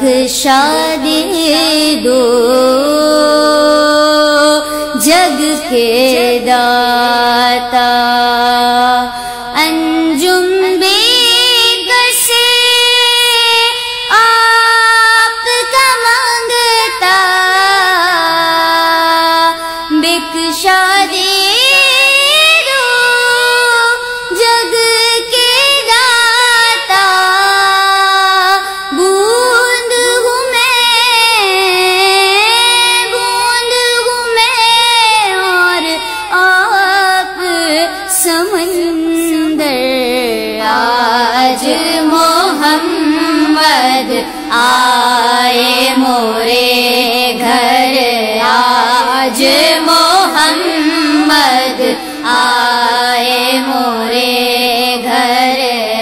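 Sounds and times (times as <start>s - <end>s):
woman singing devotional song: 0.0s - 56.0s.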